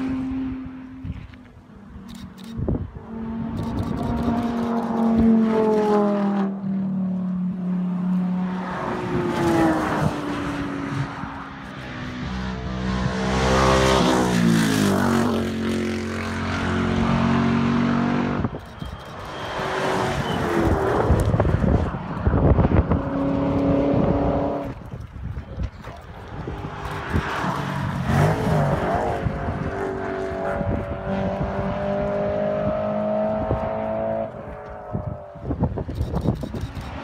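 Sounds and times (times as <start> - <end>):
rally car engines passing: 0.0 - 37.0.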